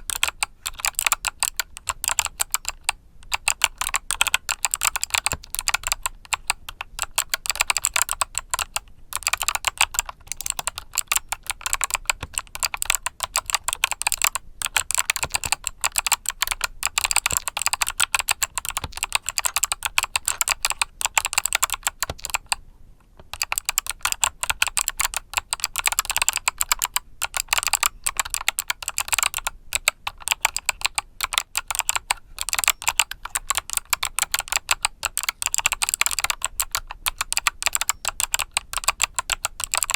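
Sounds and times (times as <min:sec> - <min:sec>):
fast typing on mechanical keyboard: 0:00.0 - 0:22.6, 0:23.3 - 0:39.9.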